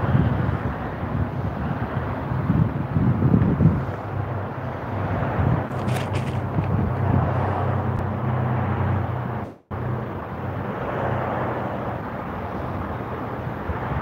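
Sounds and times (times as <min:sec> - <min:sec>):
traffic noise: 0:00.0 - 0:14.0
wind rumble on microphone: 0:00.0 - 0:14.0.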